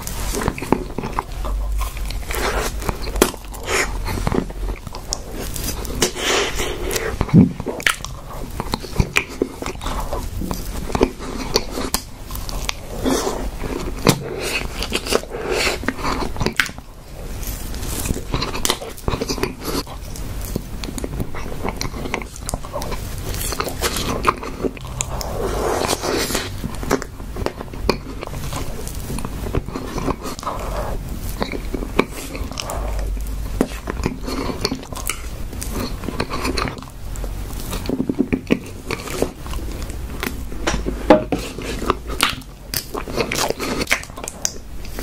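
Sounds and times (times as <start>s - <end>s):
chewing with mouth clicks: 0.0s - 45.0s.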